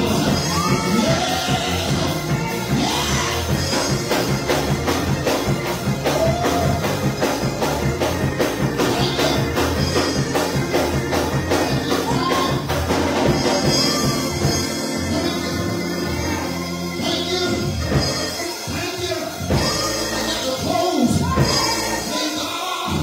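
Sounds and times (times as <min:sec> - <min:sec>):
person singing: 0:00.0 - 0:06.9, 0:08.6 - 0:23.0
drum kit beat: 0:00.0 - 0:23.0
keyboard: 0:00.0 - 0:23.0.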